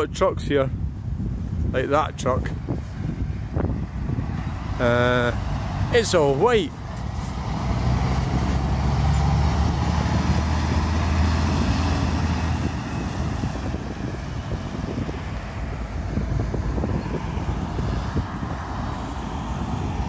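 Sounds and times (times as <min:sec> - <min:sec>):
tyre and road noise: 0:00.0 - 0:20.0
lorry diesel engine driving past: 0:03.2 - 0:20.0.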